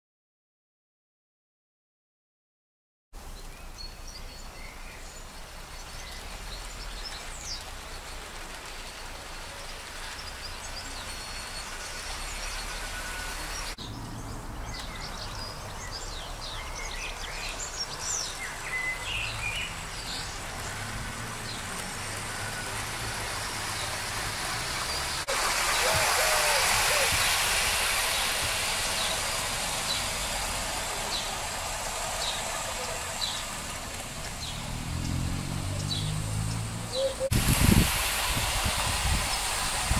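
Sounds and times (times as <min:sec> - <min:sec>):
birds chirping: 0:03.2 - 0:37.8.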